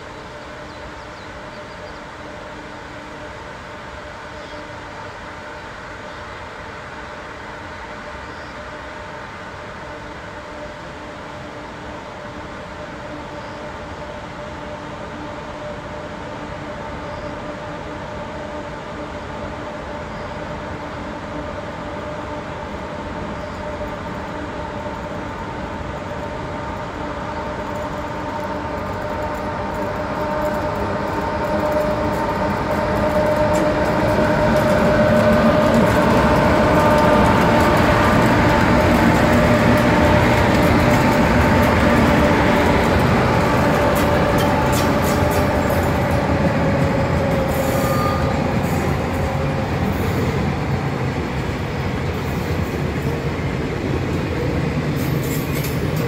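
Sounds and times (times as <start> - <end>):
electric locomotive whine: 0.0 - 56.0.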